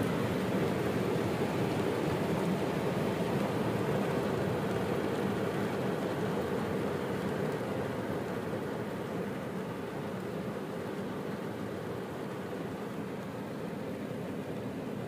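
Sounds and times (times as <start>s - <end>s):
rain on car roof: 0.0s - 13.3s.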